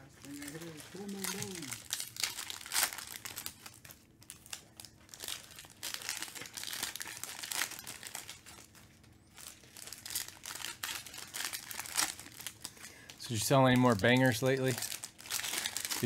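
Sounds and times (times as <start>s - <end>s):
foil wrappers crinkling and tearing: 0.0s - 16.0s.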